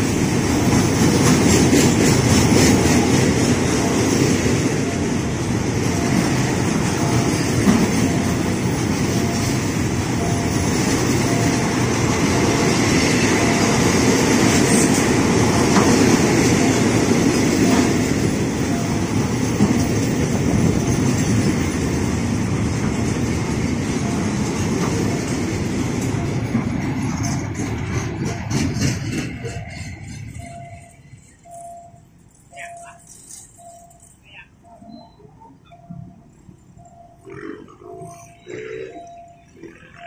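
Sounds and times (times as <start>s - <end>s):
freight train rumbling past: 0.0s - 33.0s, 33.6s - 40.0s
wheels clacking at rail joints: 0.0s - 40.0s.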